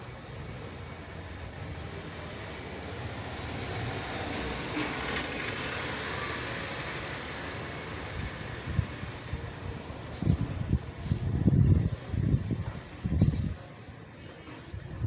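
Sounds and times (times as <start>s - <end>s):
steady noisy rumble: 0.0s - 15.0s.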